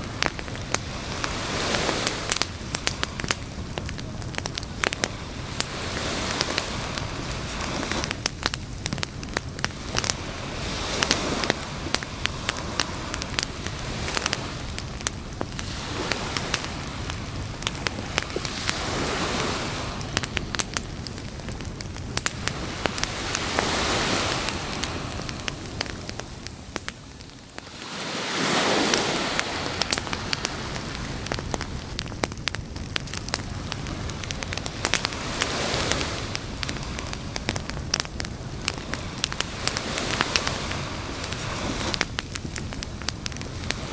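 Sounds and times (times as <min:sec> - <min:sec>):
campfire crackling and popping: 0:00.0 - 0:43.9
hiss of waves washing in: 0:00.0 - 0:43.9.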